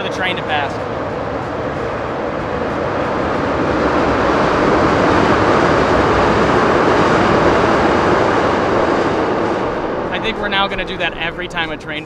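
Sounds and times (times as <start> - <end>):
train rushing past: 0.0 - 12.0.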